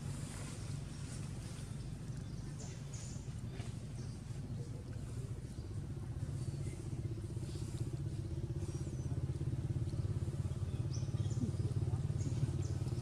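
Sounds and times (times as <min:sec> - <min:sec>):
engine pulsing rumble: 0:00.0 - 0:13.0.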